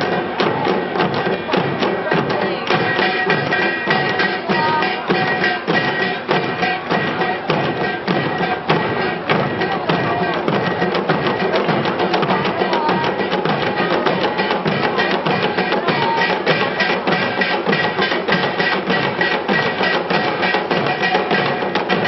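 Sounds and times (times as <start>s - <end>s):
drum ensemble playing fast rhythm: 0.0s - 22.0s.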